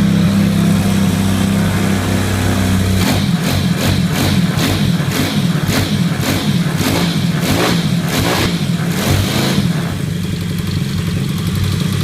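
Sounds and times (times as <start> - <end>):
motorbike engine revving and idling: 0.0 - 12.0.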